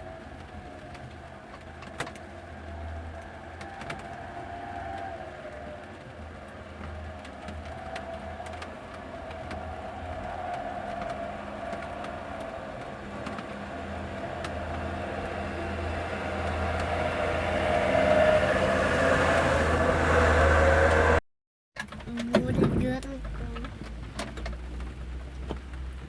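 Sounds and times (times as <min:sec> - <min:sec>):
truck engine and road noise: 0:00.0 - 0:21.2, 0:21.8 - 0:26.0.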